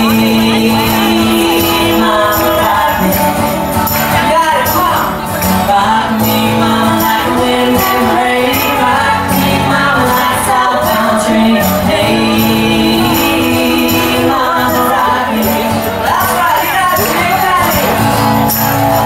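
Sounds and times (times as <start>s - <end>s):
man and woman singing country: 0.0s - 19.0s
rhythmic jingling beat: 0.0s - 19.0s.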